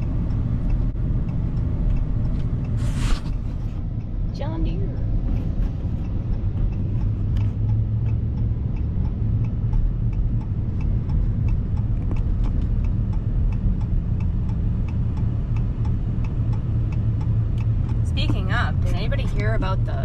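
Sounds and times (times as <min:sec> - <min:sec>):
faint regular ticking: 0:00.0 - 0:02.8, 0:03.8 - 0:20.0
engine and road rumble: 0:00.0 - 0:20.0.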